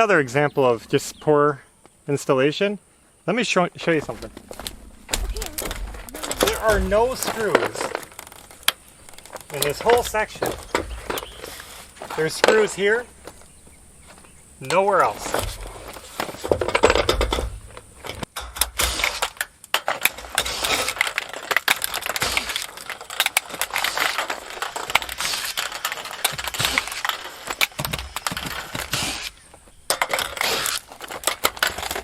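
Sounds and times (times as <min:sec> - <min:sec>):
metal roof panels clanking and scraping: 0:04.0 - 0:13.4, 0:14.1 - 0:32.0.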